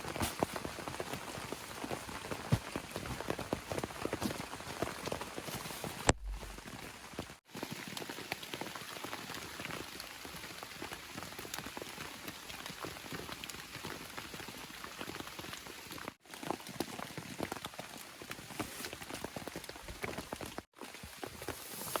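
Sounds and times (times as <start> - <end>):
raindrops pattering: 0.0 - 21.3.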